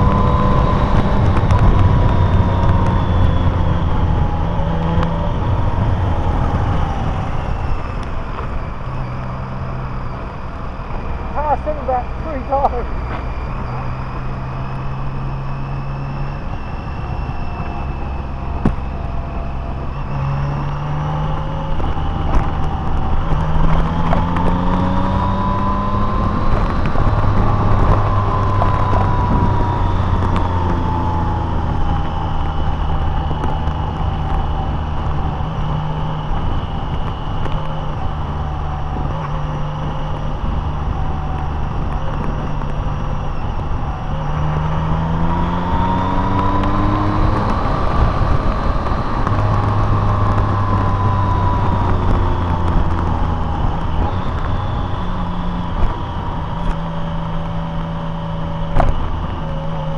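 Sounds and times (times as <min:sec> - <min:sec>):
car engine: 0:00.0 - 0:59.9
high-pitched whine: 0:00.0 - 0:59.9
road noise: 0:00.0 - 0:59.9.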